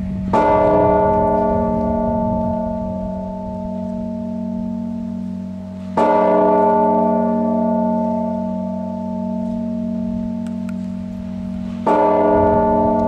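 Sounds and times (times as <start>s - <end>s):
church bell striking: 0.0s - 13.0s.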